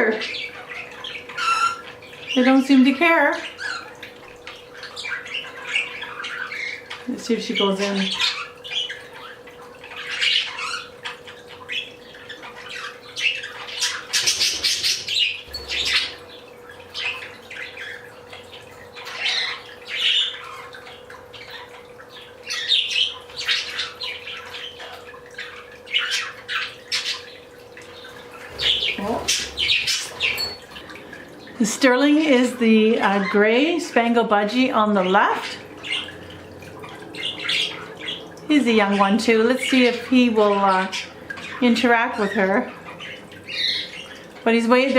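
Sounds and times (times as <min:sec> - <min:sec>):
budgerigars chirping and squawking: 0:00.0 - 0:44.9.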